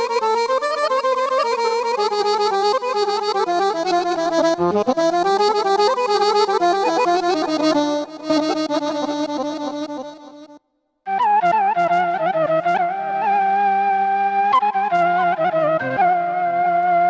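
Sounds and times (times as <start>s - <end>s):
keyboard folk melody in accordion voice: 0.0s - 17.0s.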